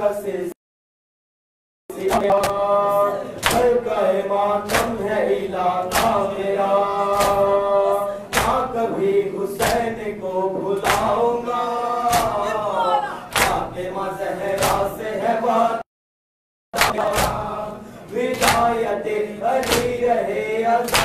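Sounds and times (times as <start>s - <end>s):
men chanting a lament: 1.9s - 15.8s, 16.8s - 21.0s.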